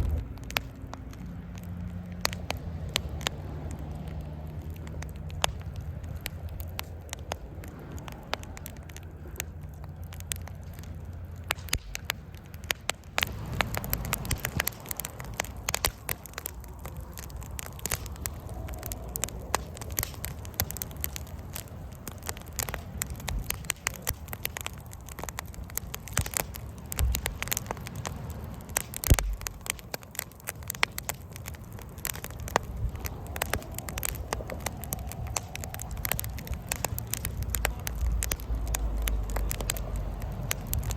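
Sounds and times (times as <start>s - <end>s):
low rumble: 0.0s - 40.9s
wood fire crackling and popping: 0.0s - 40.9s.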